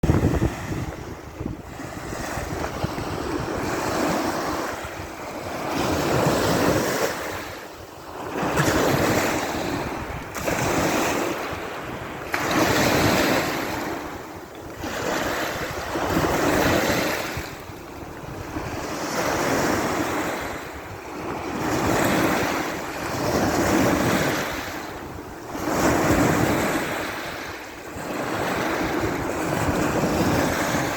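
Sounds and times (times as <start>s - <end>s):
waves washing onto shore: 0.0s - 30.9s.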